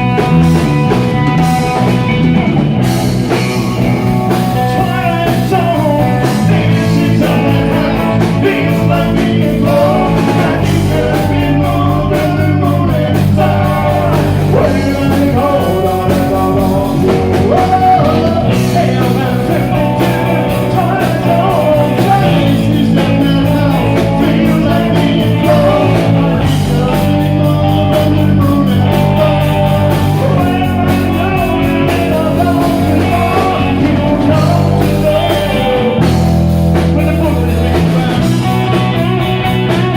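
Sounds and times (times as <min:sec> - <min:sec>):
rock band playing live: 0:00.0 - 0:39.9
person singing: 0:03.2 - 0:39.9.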